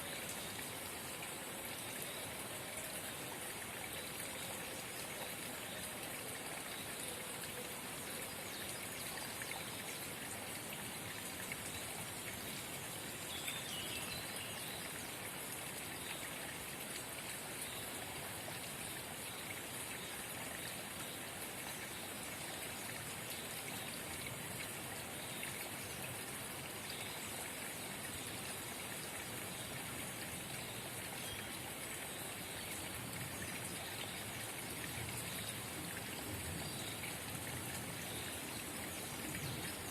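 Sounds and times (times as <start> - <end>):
trickle of running water: 0.0 - 39.9.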